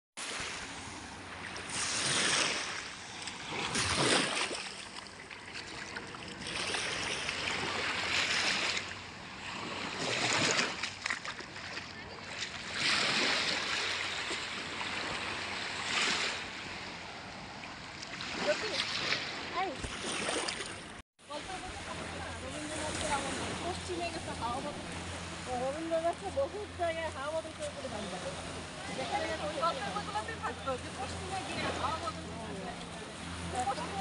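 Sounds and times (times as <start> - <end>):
sea waves washing on sand: 0.2 - 34.0.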